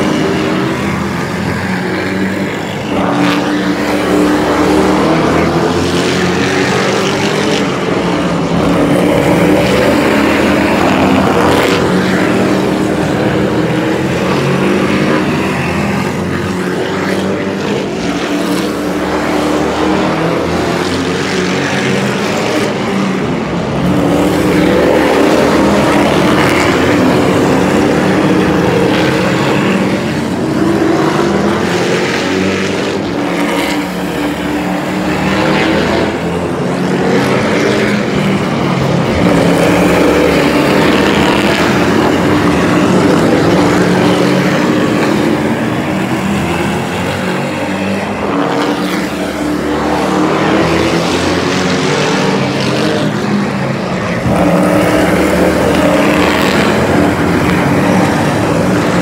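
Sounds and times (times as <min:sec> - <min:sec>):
race truck engines passing: 0:00.0 - 0:59.0.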